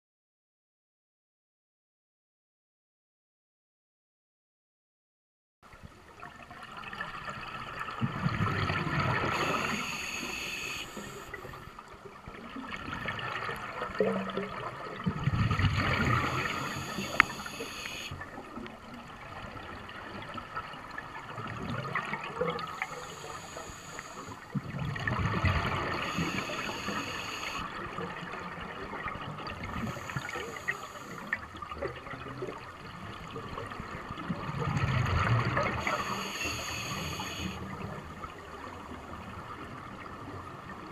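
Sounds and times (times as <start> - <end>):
low water hiss: 5.7 - 40.9.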